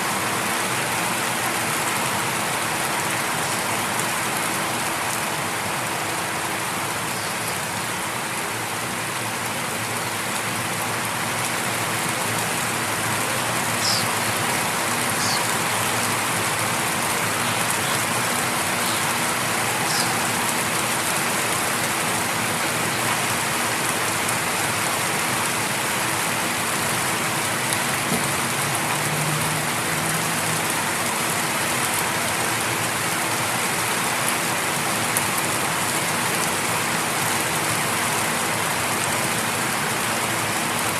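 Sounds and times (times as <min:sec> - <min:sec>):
light rain pattering: 0:00.0 - 0:40.9.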